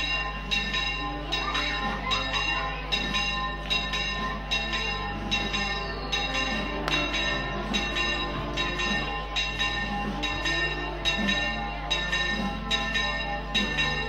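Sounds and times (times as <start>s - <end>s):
church bells pealing: 0.0s - 14.0s.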